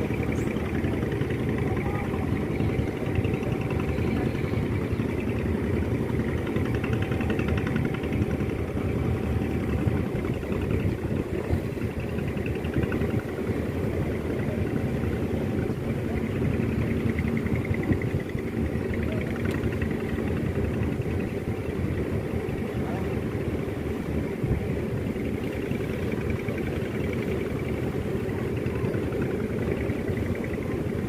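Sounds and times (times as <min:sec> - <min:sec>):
ship diesel engine rumbling: 0:00.0 - 0:31.0.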